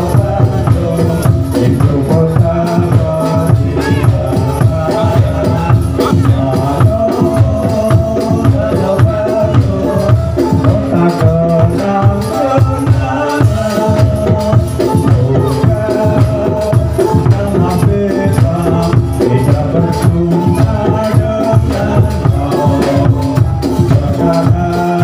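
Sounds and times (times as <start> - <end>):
drums beating steadily: 0.0 - 25.0
men singing into microphones: 0.0 - 25.0.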